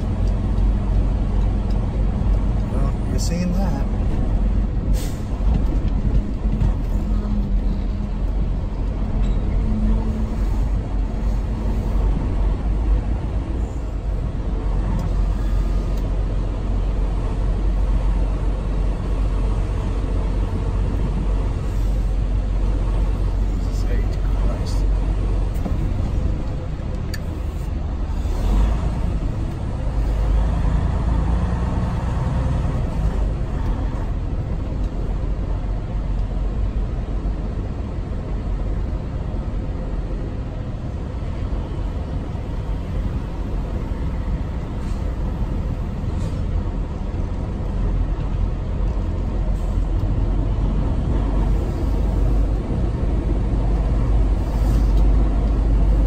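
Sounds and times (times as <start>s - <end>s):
cab and road noise: 0.0s - 56.0s.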